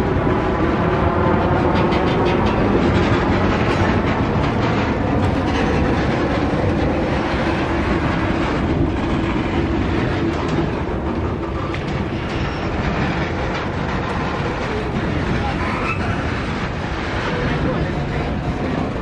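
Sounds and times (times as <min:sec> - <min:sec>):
freight train rumbling past: 0:00.0 - 0:19.0
wheels clicking over rail joints: 0:00.0 - 0:19.0.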